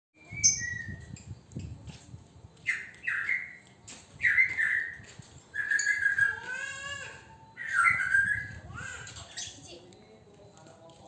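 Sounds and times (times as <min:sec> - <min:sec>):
bird chirping: 0:00.2 - 0:01.8, 0:02.6 - 0:10.2.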